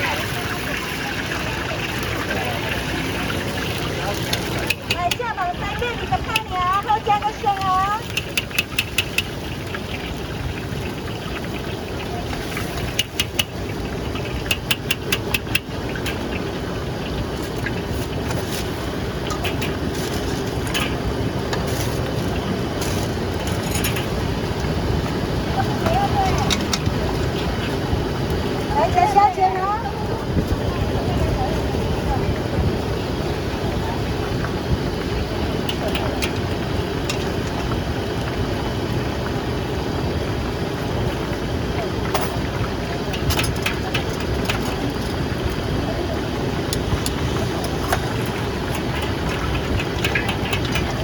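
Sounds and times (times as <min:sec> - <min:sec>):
market crowd rumble: 0:00.0 - 0:51.0.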